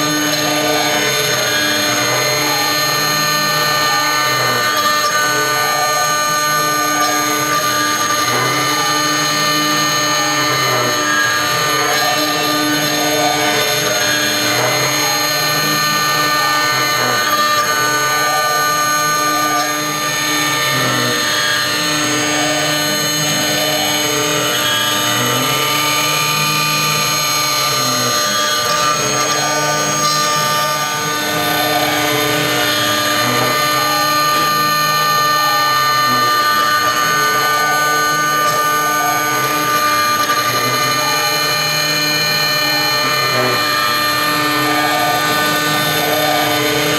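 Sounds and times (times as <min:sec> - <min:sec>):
router spindle whine: 0:00.0 - 0:46.9.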